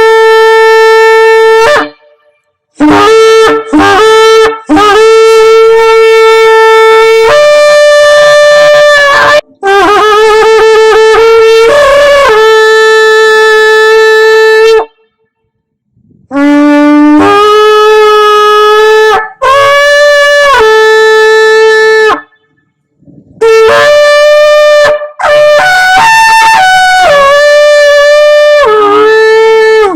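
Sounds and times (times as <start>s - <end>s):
shofar blasts: 0.0s - 29.9s.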